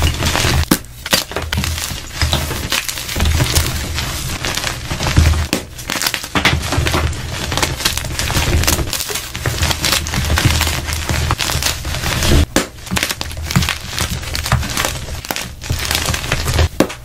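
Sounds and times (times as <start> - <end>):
chalk blocks crunching in hands: 0.0 - 17.0.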